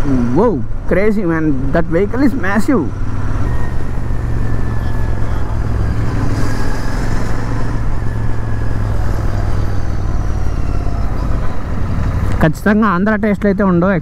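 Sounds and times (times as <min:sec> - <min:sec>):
motorcycle engine humming: 0:00.0 - 0:14.0
wind and road noise: 0:00.0 - 0:14.0.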